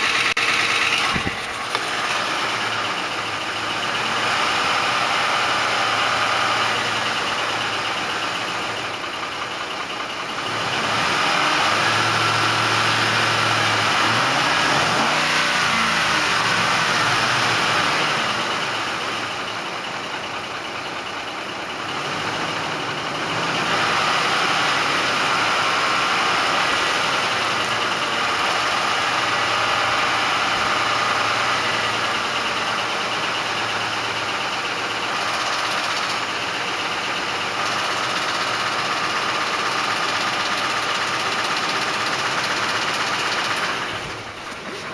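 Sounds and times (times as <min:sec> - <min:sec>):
engine running with tapping: 0:00.0 - 0:44.9.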